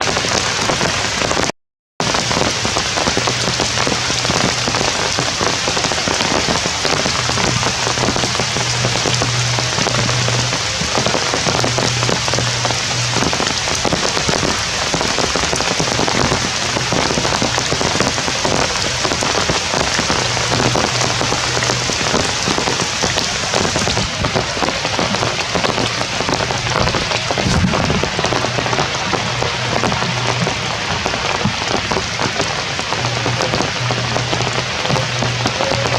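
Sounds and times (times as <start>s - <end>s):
heavy rain: 0.0s - 35.9s.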